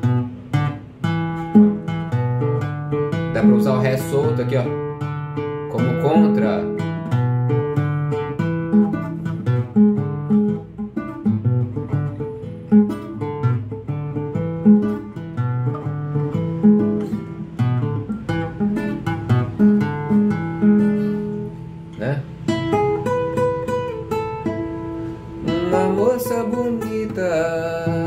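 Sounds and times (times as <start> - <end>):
fingerstyle classical guitar: 0.0 - 28.0.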